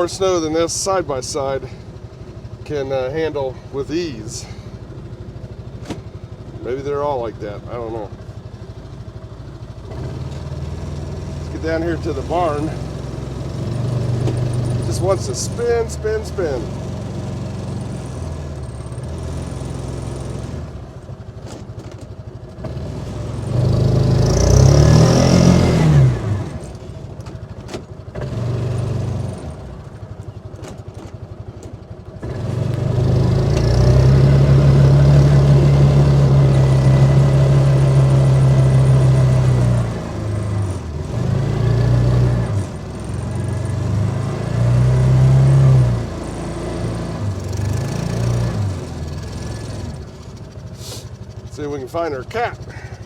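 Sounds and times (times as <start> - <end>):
utility vehicle engine revving: 0.0 - 53.0.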